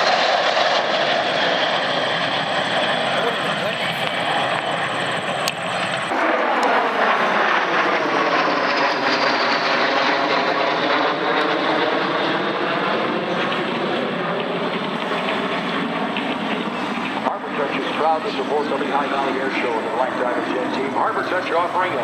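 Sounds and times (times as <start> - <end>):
jets flying past: 0.0 - 22.0.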